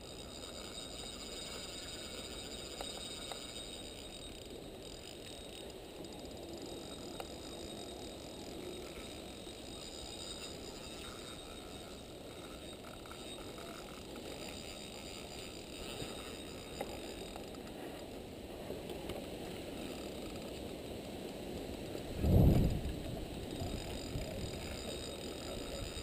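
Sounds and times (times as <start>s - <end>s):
spinning reel turning: 0.0s - 18.1s, 19.1s - 26.0s.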